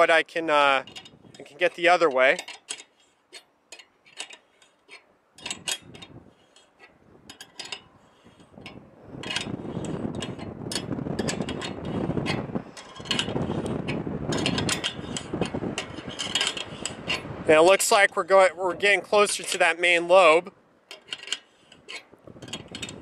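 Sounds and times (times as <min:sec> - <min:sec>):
dense rasping clicking: 0:00.4 - 0:23.0
sharp metal clicks: 0:00.8 - 0:07.9, 0:08.5 - 0:18.0, 0:20.9 - 0:23.0.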